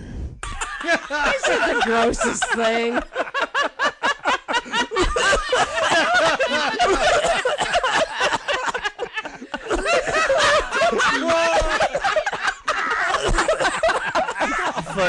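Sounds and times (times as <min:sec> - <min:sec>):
person laughing heartily: 0:00.4 - 0:15.0.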